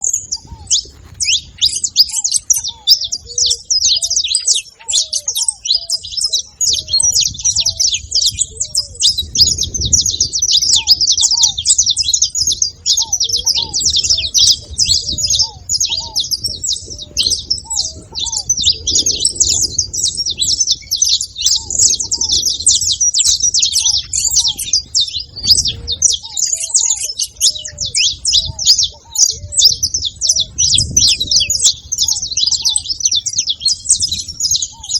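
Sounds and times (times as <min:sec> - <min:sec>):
finch chirps and trills: 0:00.0 - 0:34.9.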